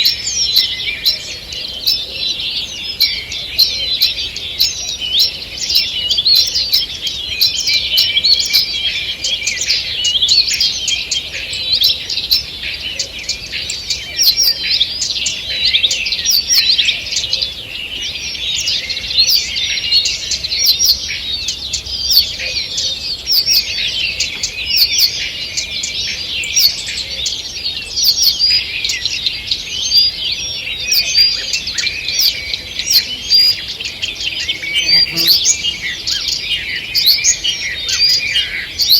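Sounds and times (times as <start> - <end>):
songbirds singing in chorus: 0.0 - 38.9.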